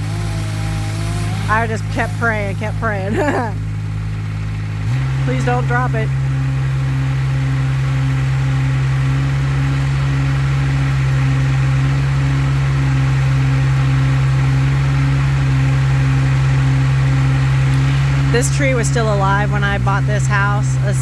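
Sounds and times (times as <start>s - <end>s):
heavy engine running with throb: 0.0s - 21.0s.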